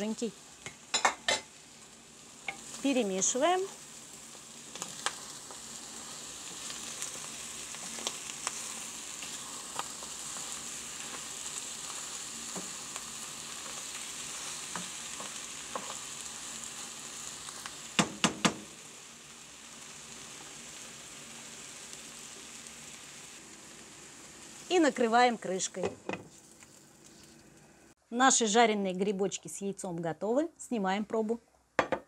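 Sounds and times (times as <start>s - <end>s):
food sizzling in a frying pan: 0.0s - 28.0s.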